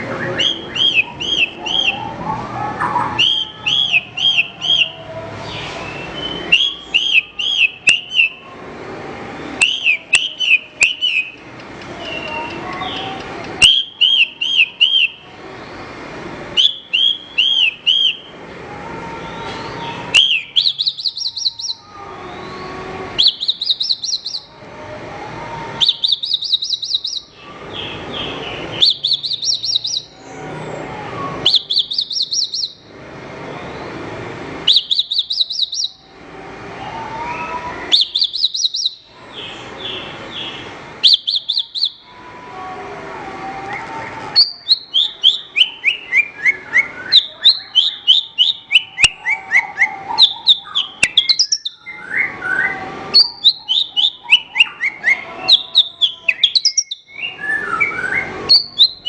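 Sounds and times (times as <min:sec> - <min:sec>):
bird singing trills: 0:00.0 - 0:08.4, 0:09.6 - 0:11.4, 0:12.0 - 0:15.2, 0:16.6 - 0:18.4, 0:19.3 - 0:24.6, 0:25.8 - 0:30.5, 0:31.4 - 0:32.9, 0:34.7 - 0:36.1, 0:36.8 - 0:42.1, 0:43.6 - 0:59.0.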